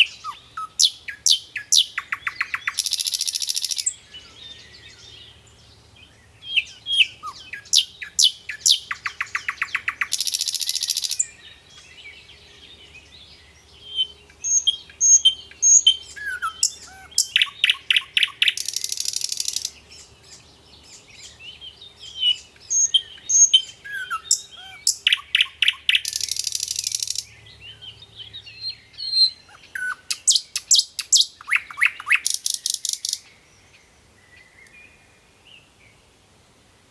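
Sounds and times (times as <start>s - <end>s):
songbird singing: 0.0s - 36.9s.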